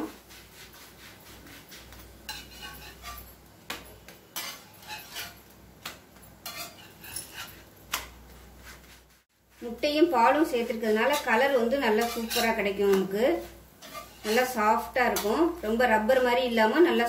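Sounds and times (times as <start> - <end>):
spatula scraping on griddle: 0.0 - 3.4, 4.3 - 9.8, 10.5 - 16.2.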